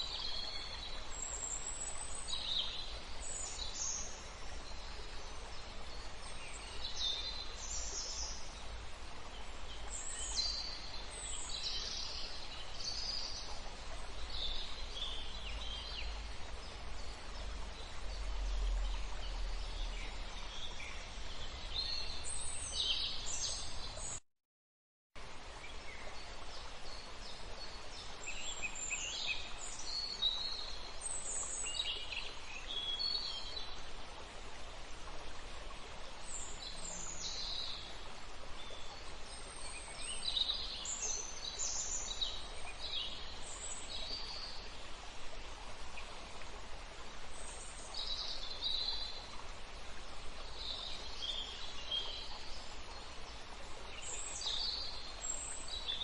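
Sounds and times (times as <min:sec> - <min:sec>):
songbirds chirping: 0:00.0 - 0:24.2, 0:25.2 - 0:56.0
steady outdoor hiss: 0:00.0 - 0:24.2, 0:25.2 - 0:56.0.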